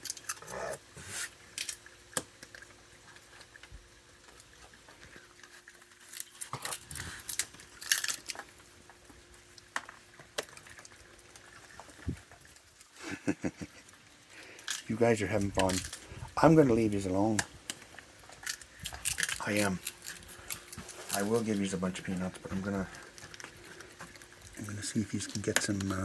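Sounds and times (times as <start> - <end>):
raccoons chewing peanuts: 0.0 - 26.0.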